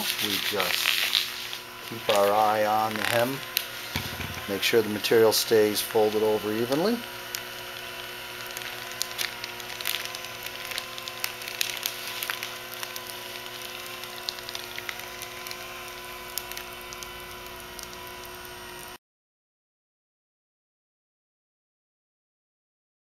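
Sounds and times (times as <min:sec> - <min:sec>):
welding machine hum: 0:00.0 - 0:19.0.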